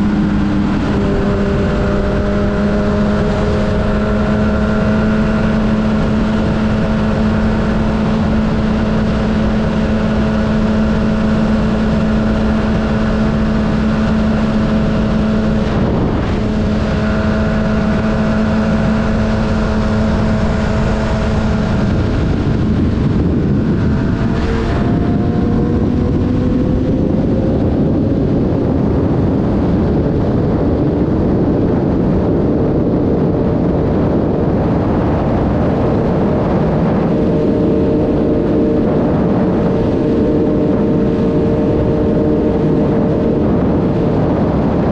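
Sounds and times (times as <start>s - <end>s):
motorcycle engine accelerating: 0.0s - 44.9s
wind and road noise: 0.0s - 44.9s.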